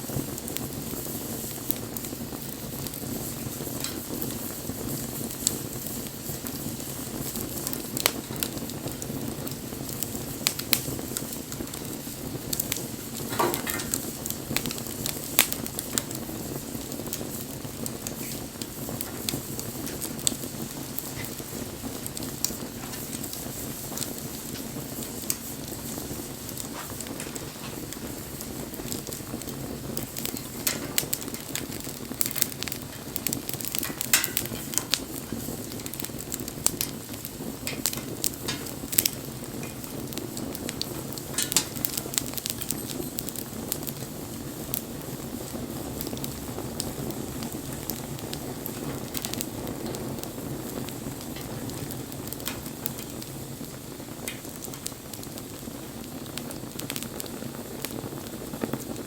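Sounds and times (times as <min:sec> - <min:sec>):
bonfire flame rushing: 0:00.0 - 0:59.0
fire crackling and popping: 0:00.0 - 0:59.0.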